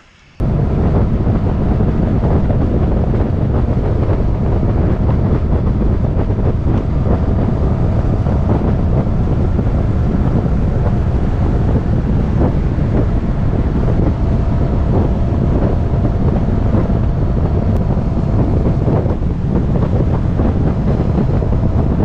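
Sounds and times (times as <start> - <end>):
wind buffeting microphone: 0.4 - 22.0.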